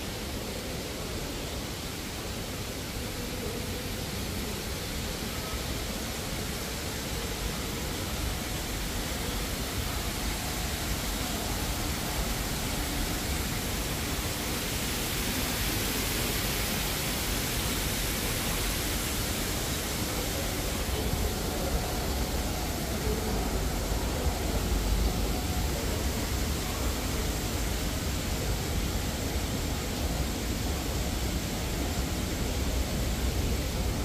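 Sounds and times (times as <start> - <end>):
rushing hiss: 0.0 - 34.0.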